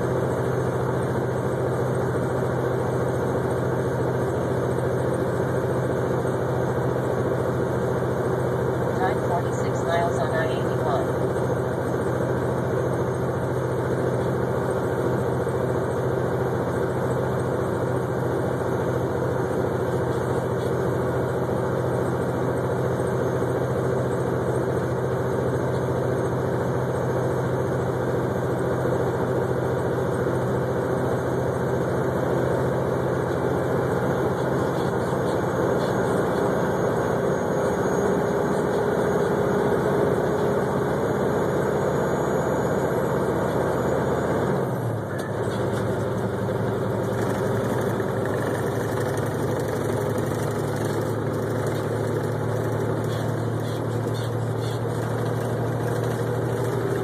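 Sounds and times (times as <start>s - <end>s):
road noise: 0.0s - 57.0s
truck diesel engine droning: 0.0s - 57.0s.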